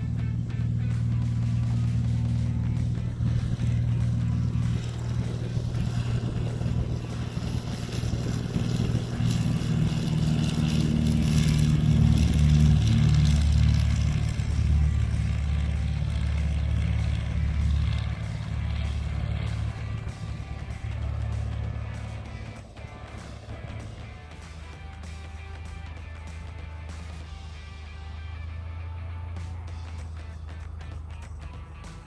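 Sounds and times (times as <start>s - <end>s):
airplane propeller engine: 0.0s - 32.0s.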